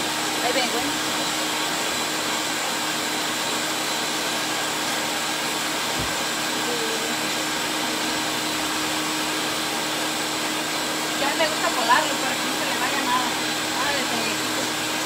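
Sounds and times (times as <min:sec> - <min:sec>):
range hood fan whirring: 0:00.0 - 0:15.0.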